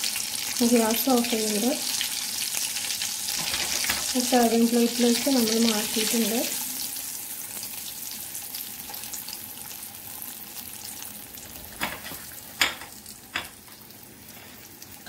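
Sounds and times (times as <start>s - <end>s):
deep-frying sizzle in oil: 0.0s - 15.0s.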